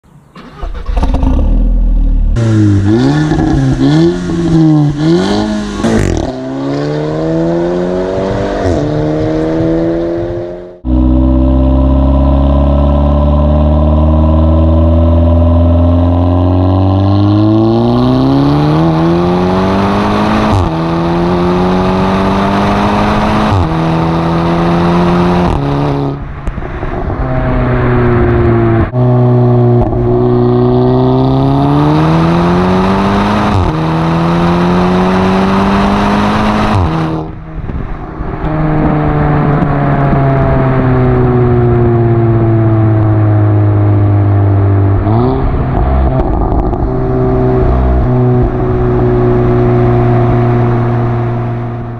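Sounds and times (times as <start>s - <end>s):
car engine accelerating hard: 0.1s - 51.9s.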